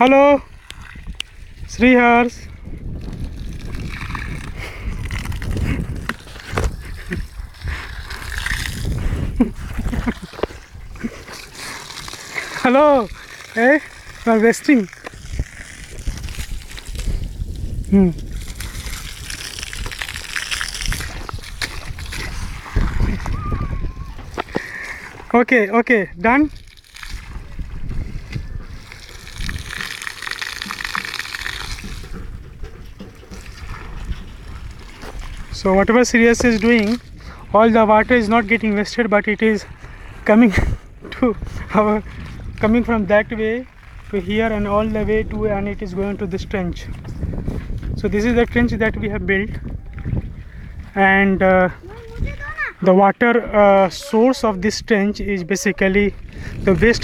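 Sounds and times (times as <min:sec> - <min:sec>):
water splashing onto concrete: 0:00.0 - 0:47.0, 0:47.7 - 0:57.0.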